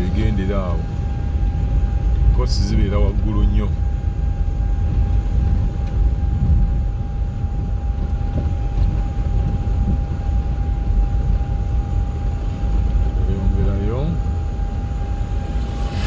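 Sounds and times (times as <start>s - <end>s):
faint high-pitched whine: 0.0s - 9.6s, 10.4s - 16.0s
vehicle rumble and road noise: 0.0s - 16.0s.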